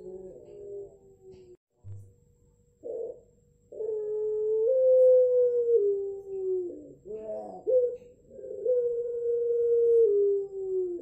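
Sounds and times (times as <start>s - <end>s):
dove cooing: 0.0s - 1.6s, 2.8s - 11.0s.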